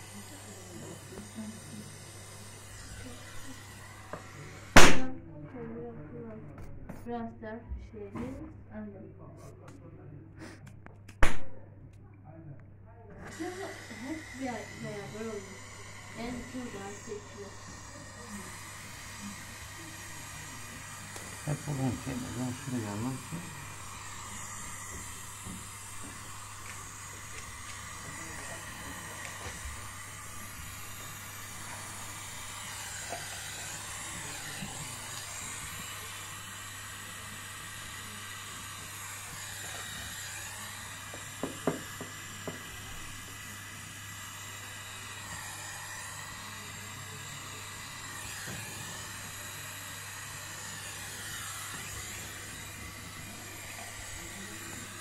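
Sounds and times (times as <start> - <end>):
torch flame hissing: 0.0 - 5.2, 13.2 - 55.0.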